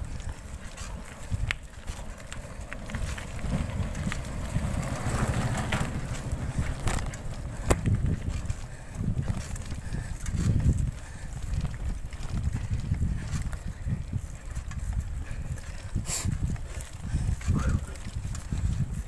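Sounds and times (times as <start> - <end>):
bicycle rattling over rocky trail: 0.0 - 19.0
bike clicks and knocks: 0.0 - 19.0
wind rumble on microphone: 0.0 - 19.0.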